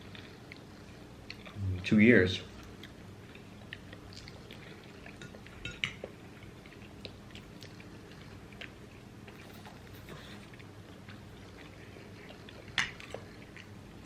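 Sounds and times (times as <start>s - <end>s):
faint chewing: 0.0s - 1.8s, 2.4s - 14.0s.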